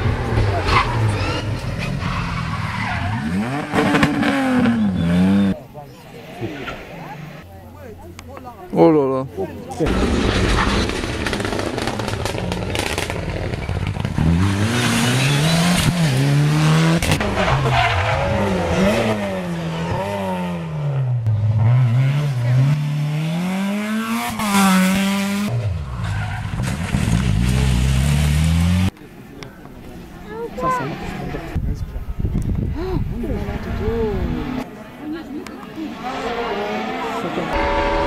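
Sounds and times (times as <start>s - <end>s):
rally car engines revving: 0.0s - 7.5s, 9.8s - 29.0s, 30.0s - 31.8s, 33.0s - 38.0s.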